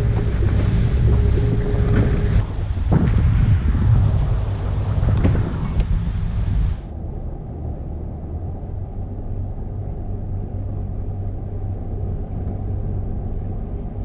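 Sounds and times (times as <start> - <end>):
constant hum: 0.0 - 14.0
low steady rumble: 0.0 - 14.0.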